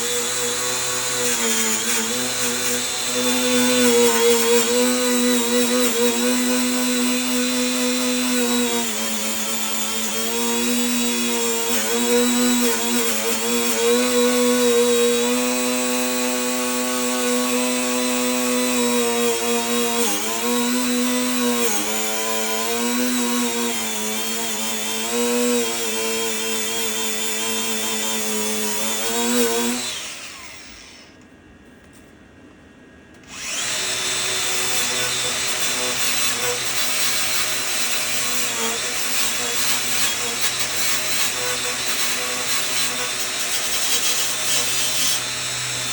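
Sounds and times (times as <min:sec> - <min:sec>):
power tool motor running: 0:00.0 - 0:31.2, 0:33.2 - 0:45.9.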